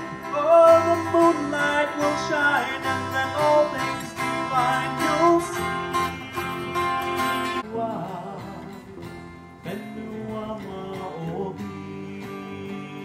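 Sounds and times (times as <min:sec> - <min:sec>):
song with strummed acoustic guitar: 0:00.0 - 0:13.0.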